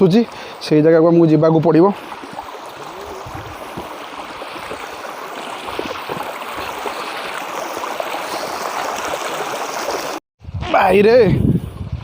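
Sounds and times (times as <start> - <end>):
stream water rushing over rocks: 0.0 - 10.2.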